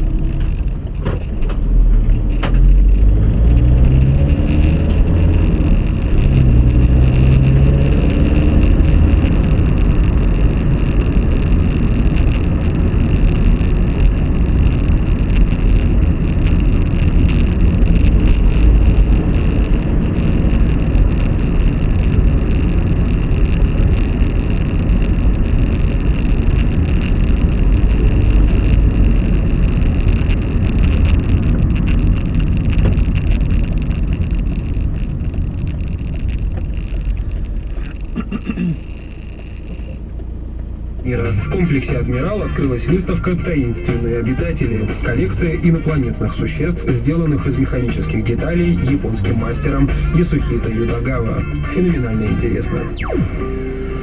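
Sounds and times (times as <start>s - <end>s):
vehicle road noise: 0.0s - 54.0s.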